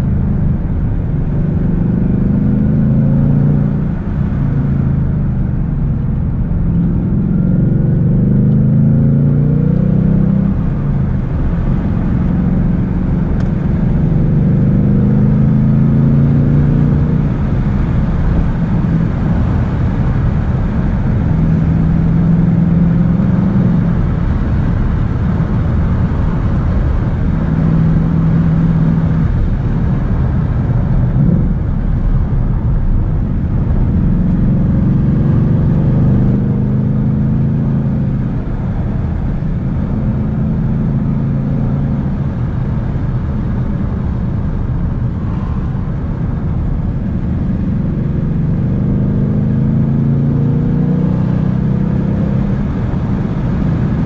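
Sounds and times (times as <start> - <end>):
car engine from inside cabin: 0.0 - 54.0
tyre and road noise: 0.0 - 54.0.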